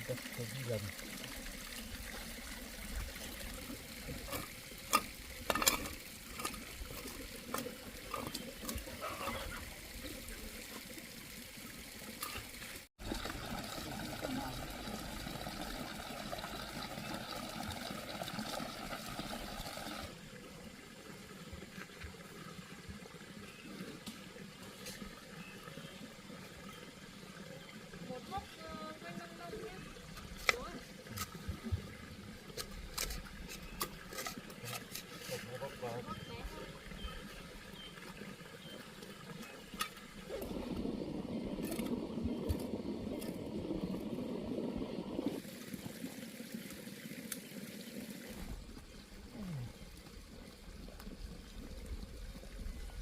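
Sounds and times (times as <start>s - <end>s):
water pouring and splashing: 0.0s - 53.0s.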